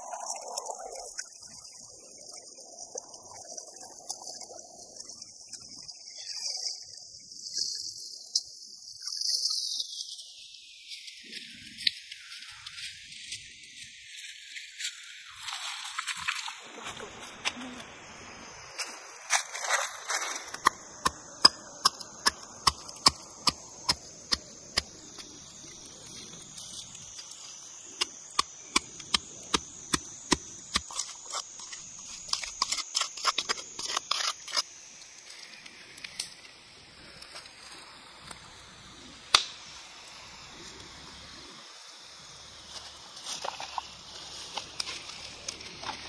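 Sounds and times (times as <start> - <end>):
high insect drone: 3.4 - 46.0.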